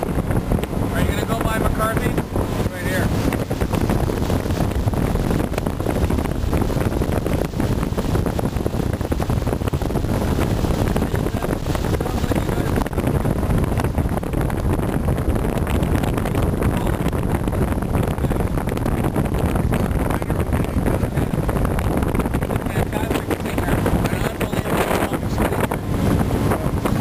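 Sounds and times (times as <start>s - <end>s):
boat rushing across water: 0.0s - 27.0s
wind buffeting microphone: 0.0s - 27.0s.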